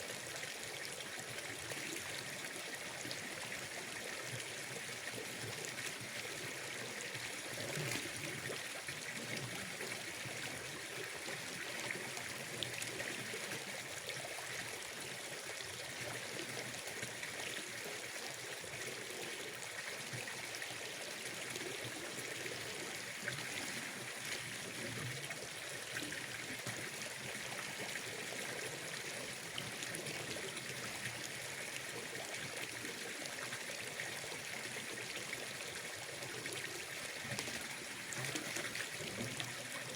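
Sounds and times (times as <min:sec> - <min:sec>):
water trickling and flowing: 0:00.0 - 0:39.9.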